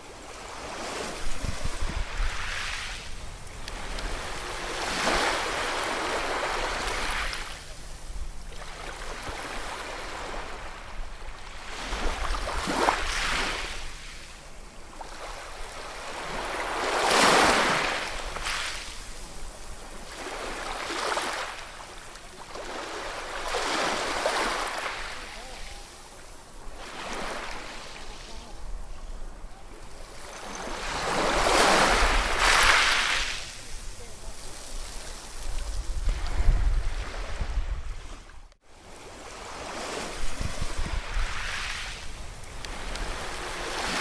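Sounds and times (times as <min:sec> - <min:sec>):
waves washing up a shore: 0:00.0 - 0:44.0.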